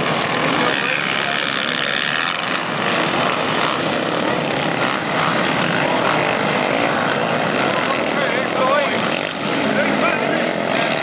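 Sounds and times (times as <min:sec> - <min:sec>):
quad bike engines revving: 0:00.0 - 0:11.0.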